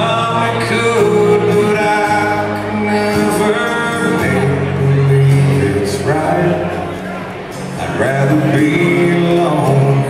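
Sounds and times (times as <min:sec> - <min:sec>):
acoustic guitar: 0:00.0 - 0:10.0
man singing country song: 0:00.0 - 0:10.0.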